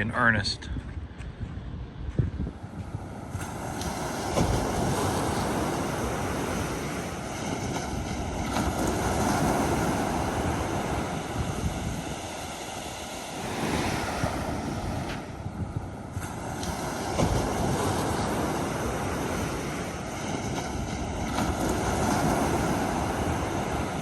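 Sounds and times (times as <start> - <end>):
wind buffeting microphone: 0.0 - 24.0
ocean surf washing in: 1.7 - 24.0.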